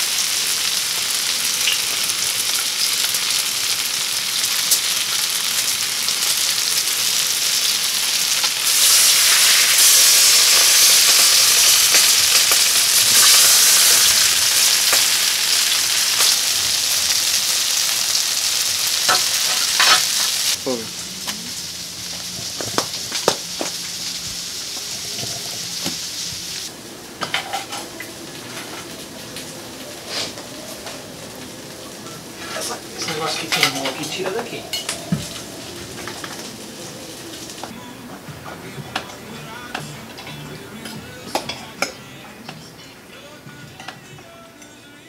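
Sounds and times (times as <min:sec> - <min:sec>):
food sizzling in a pan: 0:00.0 - 0:37.8.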